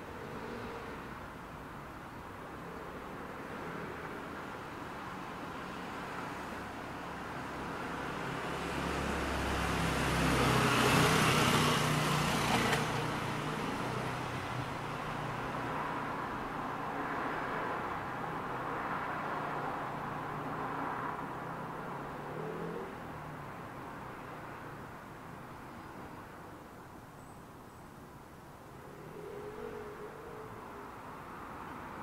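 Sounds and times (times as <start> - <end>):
car passing: 0.0 - 26.3
steady traffic noise: 0.0 - 32.0.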